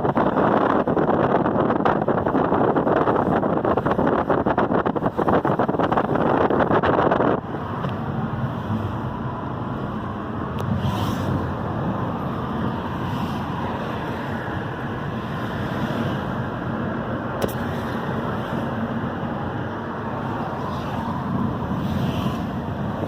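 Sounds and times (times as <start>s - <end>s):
road and engine rumble: 0.0s - 23.0s
wind buffeting microphone: 0.0s - 23.0s.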